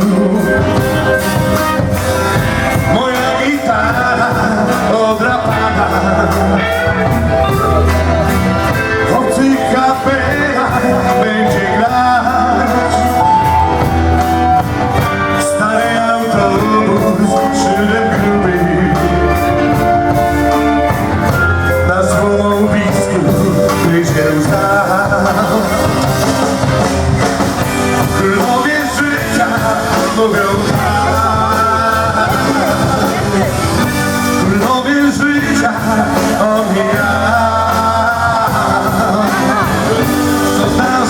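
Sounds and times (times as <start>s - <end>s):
bass guitar: 0.0s - 41.0s
electric guitar: 0.0s - 41.0s
steady drum beat: 0.0s - 41.0s.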